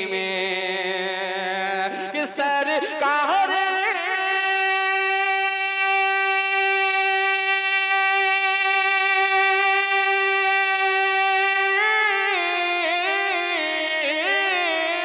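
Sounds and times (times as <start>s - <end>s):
man singing a long held note: 0.0s - 15.0s.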